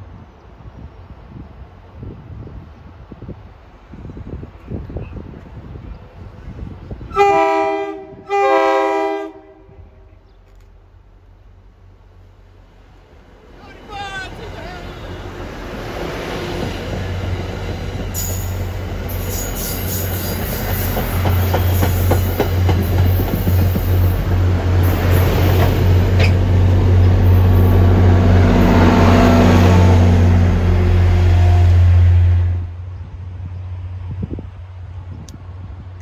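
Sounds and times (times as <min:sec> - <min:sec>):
diesel locomotive engine drone: 0:00.0 - 0:36.0
train wheels rumbling over rails: 0:00.4 - 0:36.0.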